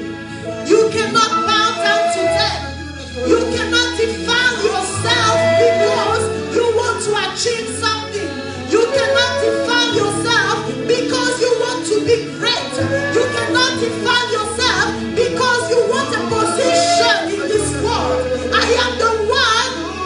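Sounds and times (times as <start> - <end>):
keyboard chords: 0.0 - 20.0
woman singing: 0.6 - 20.0.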